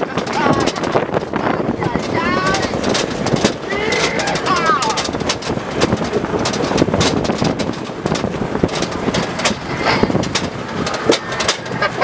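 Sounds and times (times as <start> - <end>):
body knocks and rattles: 0.0 - 12.0
vehicle driving on rocky track: 0.0 - 12.0
wind buffeting microphone: 0.0 - 12.0.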